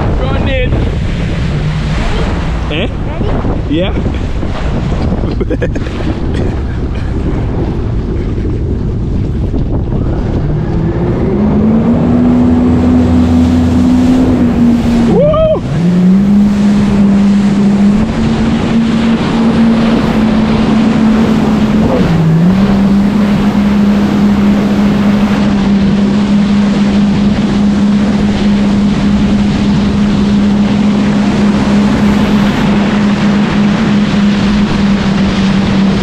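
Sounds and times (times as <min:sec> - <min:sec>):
jet ski engine running: 0:00.0 - 0:36.0
wind and water rushing: 0:00.0 - 0:36.0.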